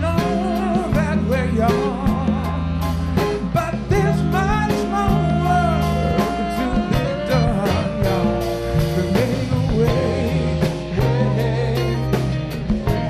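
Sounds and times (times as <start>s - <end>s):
bass: 0.0s - 13.0s
drum kit beat: 0.0s - 13.0s
guitar: 0.0s - 13.0s
wordless singing: 0.0s - 13.0s.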